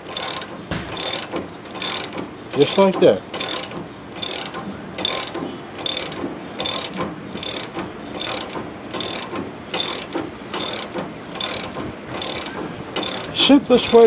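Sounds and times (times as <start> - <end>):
ratchet wrench clicking: 0.0 - 14.0.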